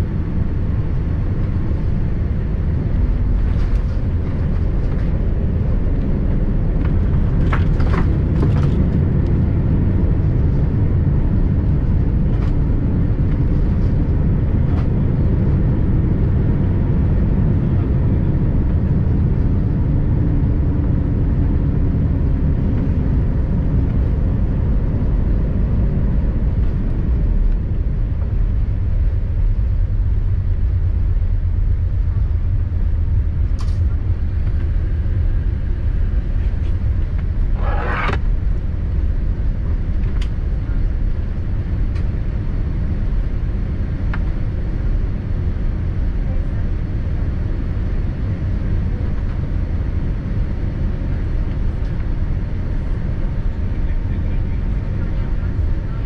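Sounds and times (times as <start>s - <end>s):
aircraft cabin rumble: 0.0s - 56.0s.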